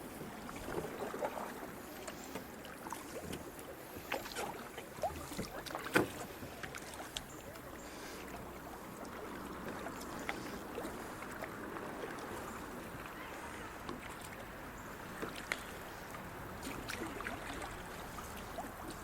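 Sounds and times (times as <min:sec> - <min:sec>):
paddle splashes: 0:00.0 - 0:19.0
rushing water: 0:00.0 - 0:19.0
water sloshing: 0:00.0 - 0:19.0.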